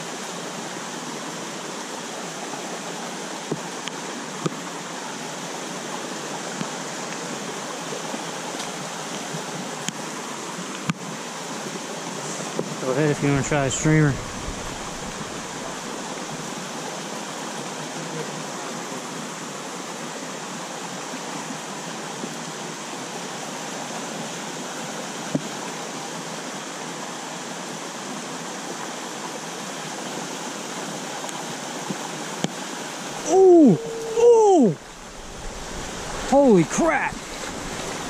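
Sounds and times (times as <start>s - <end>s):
stream rushing over rock ledge: 0.0s - 38.0s.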